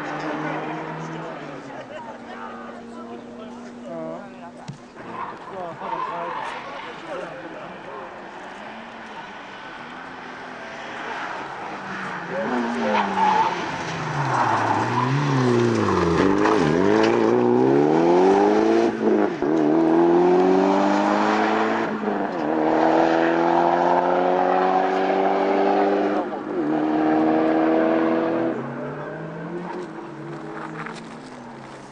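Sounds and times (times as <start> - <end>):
rally car engine accelerating: 0.0 - 4.2, 5.0 - 31.9.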